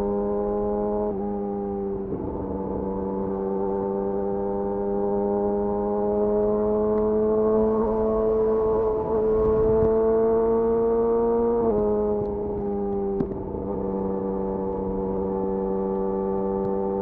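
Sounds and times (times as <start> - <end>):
motorcycle exhaust note: 2.0 - 17.0.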